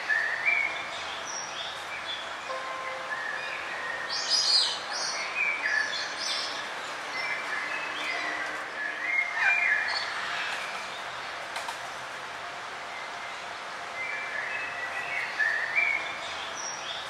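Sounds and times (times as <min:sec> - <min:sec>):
songbirds chirping and singing: 0:00.0 - 0:17.0
steady background hiss: 0:00.0 - 0:17.0.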